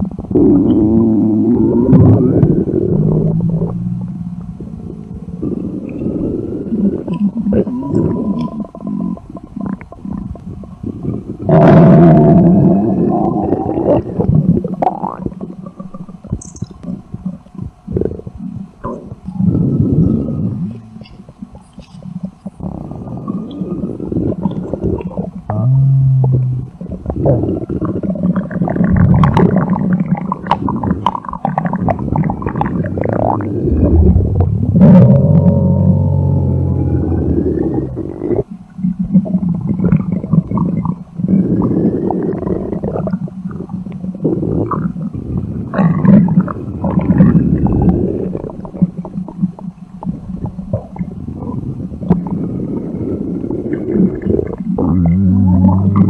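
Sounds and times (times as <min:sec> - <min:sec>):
low pitched stomach groan: 0:00.0 - 0:56.0
stomach growling: 0:00.0 - 0:56.0.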